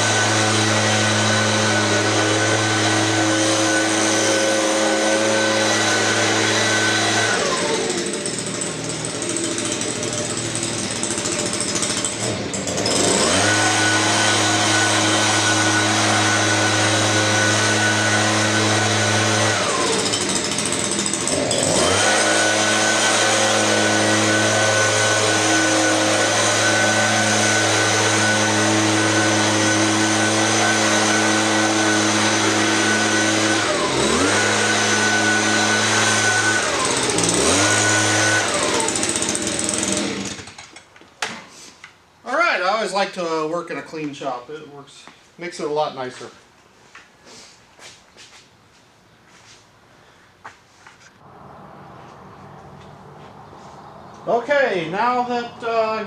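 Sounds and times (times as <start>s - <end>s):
leaf blower engine buzzing: 0.0s - 43.3s, 51.2s - 56.0s.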